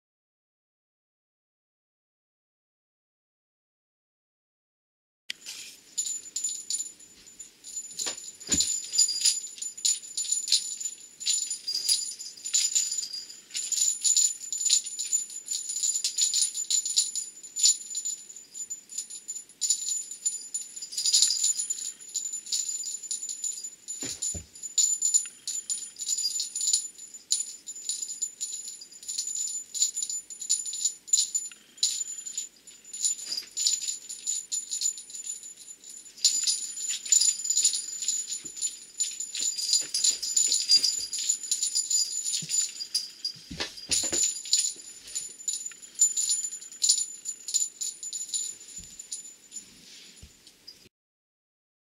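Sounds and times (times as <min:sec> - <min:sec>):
small metal bell jingling: 0:05.4 - 0:50.9.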